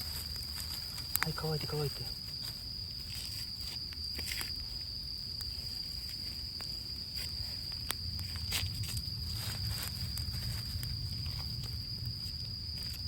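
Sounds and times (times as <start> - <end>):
campfire popping and crackling: 0.0 - 13.0
high-pitched insect trill: 0.0 - 13.0.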